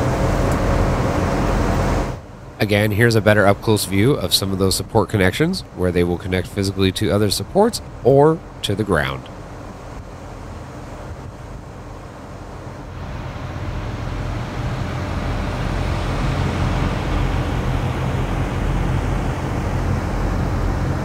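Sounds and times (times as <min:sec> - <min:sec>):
vehicle engine rumble with hiss: 0:00.0 - 0:21.0.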